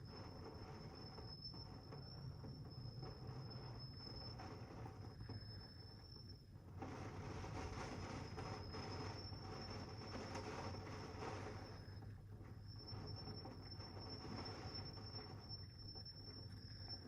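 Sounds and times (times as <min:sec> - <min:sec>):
continuous high-pitched tone: 0:00.0 - 0:17.0.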